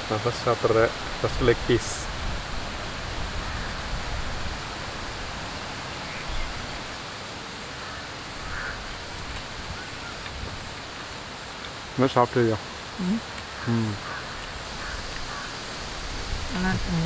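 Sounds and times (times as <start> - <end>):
even hiss: 0.0 - 7.0, 7.8 - 17.0.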